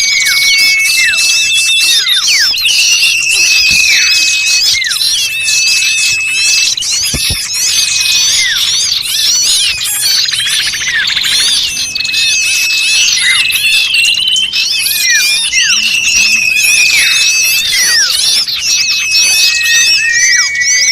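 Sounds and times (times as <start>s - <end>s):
birds whistling: 0.0s - 20.9s
small birds chirping: 0.0s - 20.9s.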